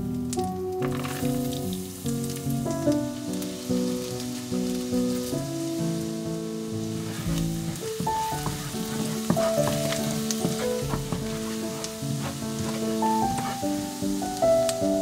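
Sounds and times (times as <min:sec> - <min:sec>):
garlic sizzling in a frying pan: 0:00.0 - 0:15.0
music with sustained notes: 0:00.0 - 0:15.0.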